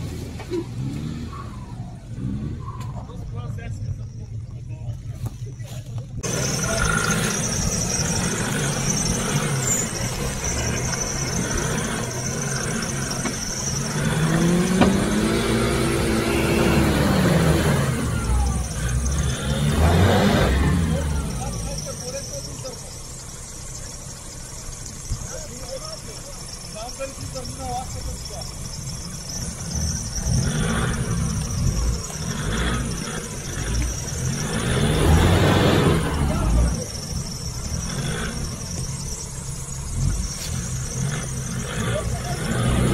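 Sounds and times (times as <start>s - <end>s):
engine revving wheels spinning in mud: 0.0s - 42.9s
high-pitched squeal: 6.2s - 42.9s.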